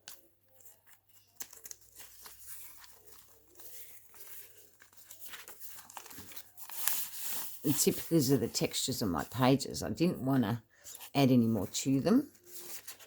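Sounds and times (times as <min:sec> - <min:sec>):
paper pages rustling: 0:00.0 - 0:09.5, 0:10.8 - 0:13.0.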